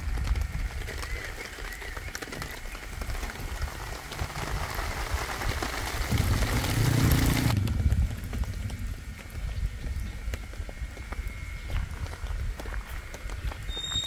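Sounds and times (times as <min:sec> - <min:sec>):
rain-like hiss: 0:00.0 - 0:14.0
wind rumbling on microphone: 0:00.0 - 0:14.0.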